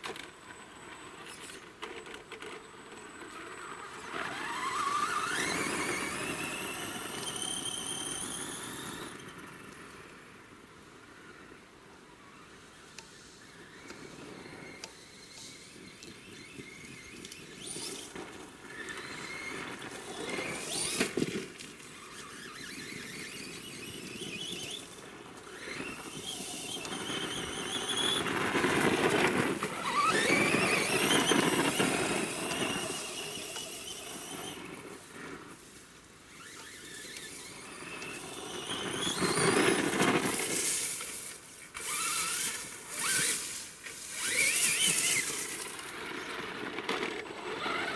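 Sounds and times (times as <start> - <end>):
toy truck electric motor whining: 0.0 - 10.2, 12.2 - 47.9.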